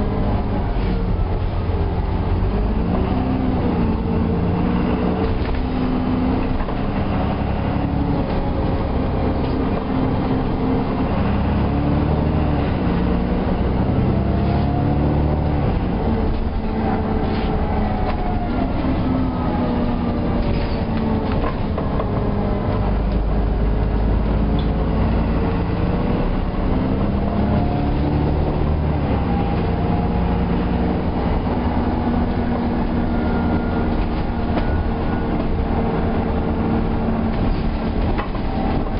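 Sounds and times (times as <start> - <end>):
diesel bus engine: 0.0 - 38.9.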